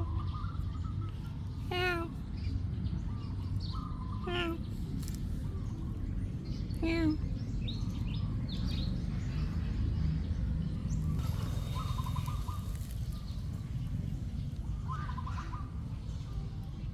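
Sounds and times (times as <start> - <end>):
steady low rumble: 2.2 - 16.9.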